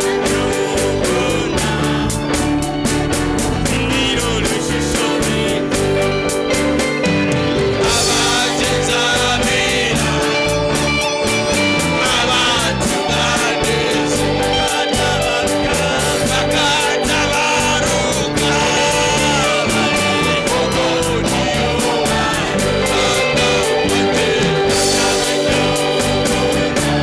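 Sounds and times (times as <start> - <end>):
person singing: 0.0 - 6.5, 7.8 - 27.0
electric guitar: 0.0 - 27.0
gospel band music: 0.0 - 27.0
steady drum beat: 0.0 - 27.0.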